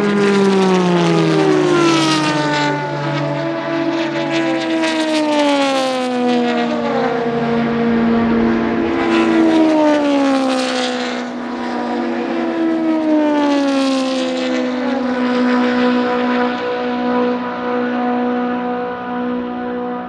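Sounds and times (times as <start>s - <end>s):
racing cars passing at speed: 0.0s - 20.0s.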